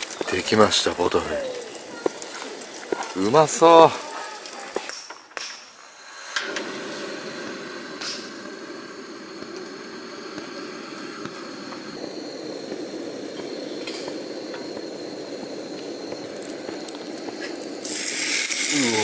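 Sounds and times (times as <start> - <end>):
gas burner flame hissing: 0.0 - 19.0.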